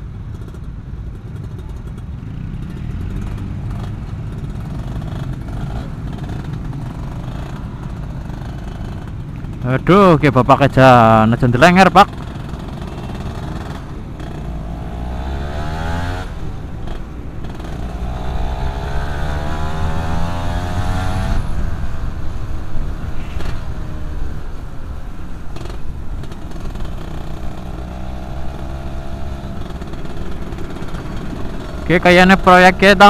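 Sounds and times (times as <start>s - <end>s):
two-stroke motorcycle engine revving: 1.3s - 22.1s, 25.5s - 33.0s.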